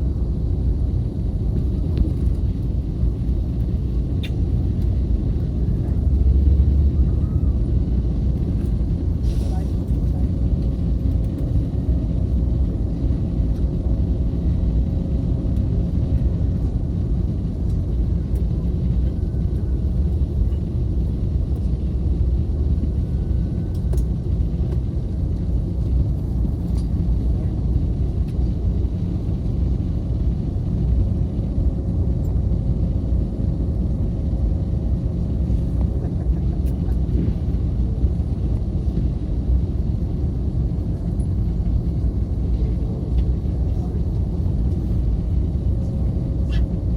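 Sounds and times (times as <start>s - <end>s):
vehicle rumble from inside: 0.0s - 46.9s.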